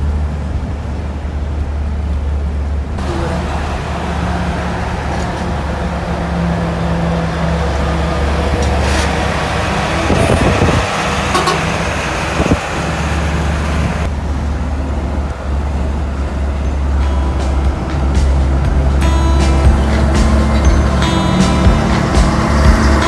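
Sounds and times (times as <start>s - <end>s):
road noise: 0.0s - 23.0s
van engine drone: 0.0s - 23.0s
wind and passing traffic hiss: 0.0s - 23.0s.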